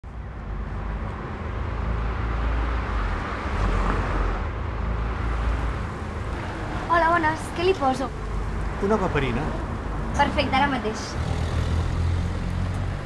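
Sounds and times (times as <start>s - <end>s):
cars passing rumble: 0.0s - 13.0s.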